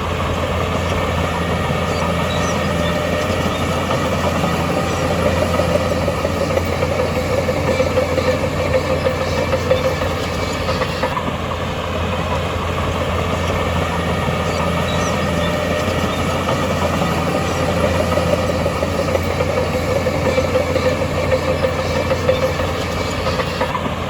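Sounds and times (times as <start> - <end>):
diesel machinery engine humming: 0.0 - 24.0.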